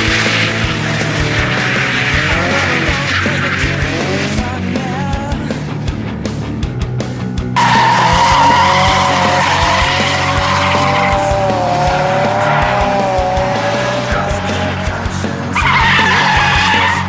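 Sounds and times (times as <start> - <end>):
tyres squealing: 0.0 - 4.6, 7.6 - 17.0
engine at high revs: 0.0 - 4.9, 7.6 - 17.0.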